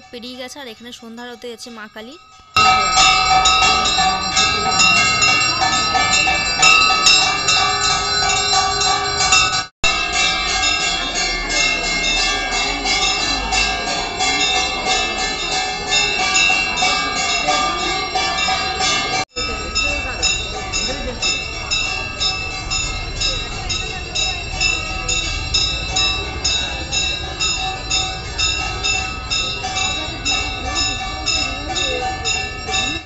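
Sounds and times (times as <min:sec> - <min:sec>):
bells ringing rapidly: 0:00.0 - 0:33.0.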